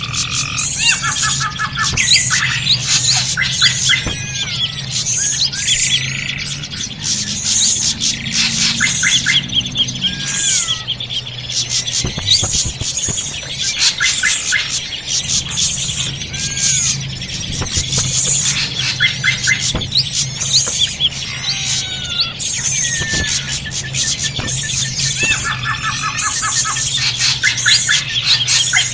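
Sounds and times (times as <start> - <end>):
birds chirping and trilling: 0.0 - 28.9
steady low hum: 0.0 - 28.9.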